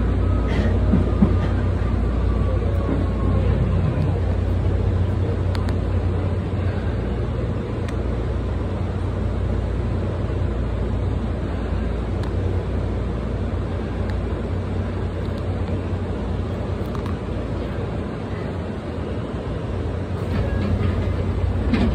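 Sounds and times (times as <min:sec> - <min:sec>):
electric train hum and rumble: 0:00.0 - 0:21.9.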